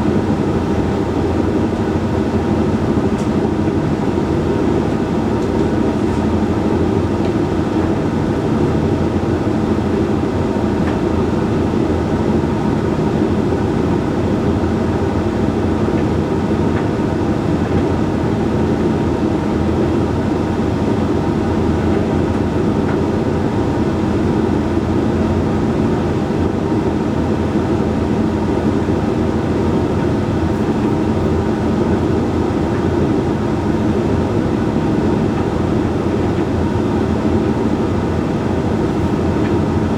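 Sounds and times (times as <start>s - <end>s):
tumble dryer humming: 0.0s - 39.9s.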